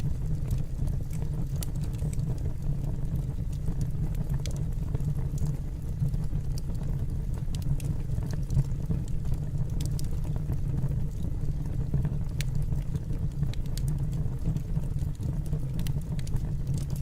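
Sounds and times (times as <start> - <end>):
burning wood crackling and popping: 0.0 - 17.0
fireplace fire rumbling: 0.0 - 17.0.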